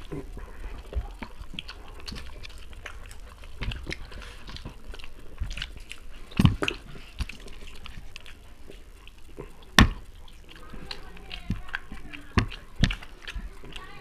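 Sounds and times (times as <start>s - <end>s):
people chewing and lip-smacking: 0.0s - 14.0s.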